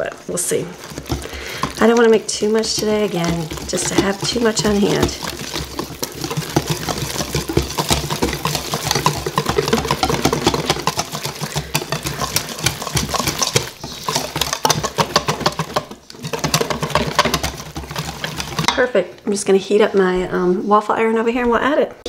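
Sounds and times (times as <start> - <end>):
whisk rattling in metal bowl: 0.8 - 18.8.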